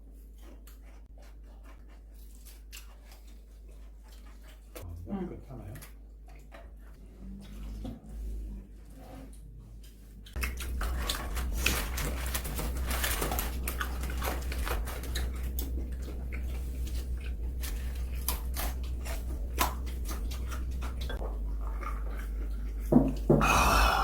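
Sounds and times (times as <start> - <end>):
chewing crunchy fried chicken: 0.0 - 24.0.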